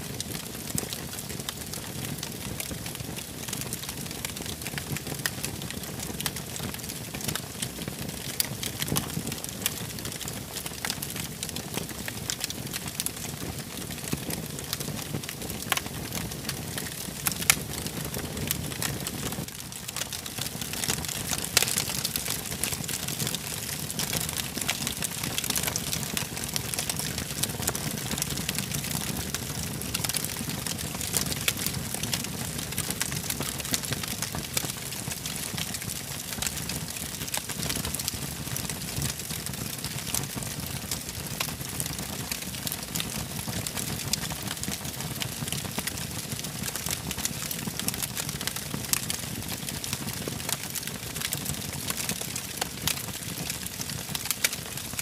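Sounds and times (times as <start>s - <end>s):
wood fire hissing and crackling: 0.0s - 55.0s.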